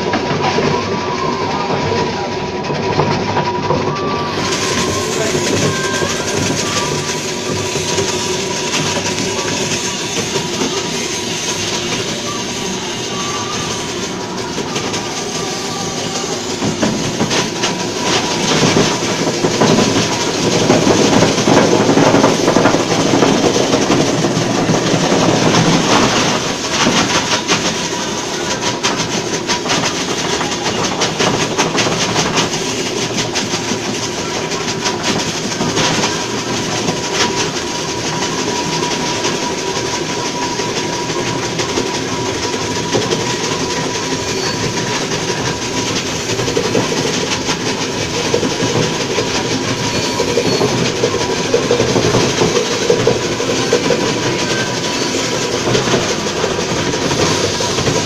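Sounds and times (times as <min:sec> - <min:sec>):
ice crusher rotor clattering: 0:00.0 - 0:58.0.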